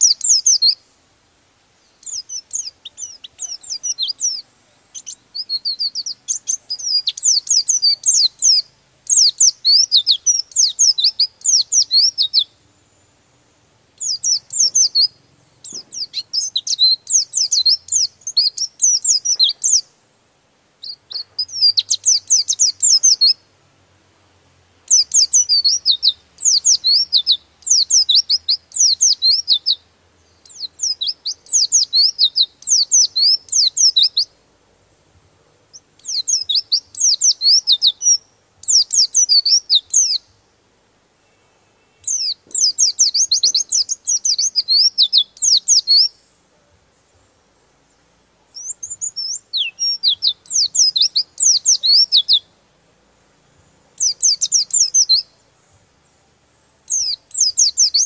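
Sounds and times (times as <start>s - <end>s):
bird singing rolling song: 0.0s - 58.0s.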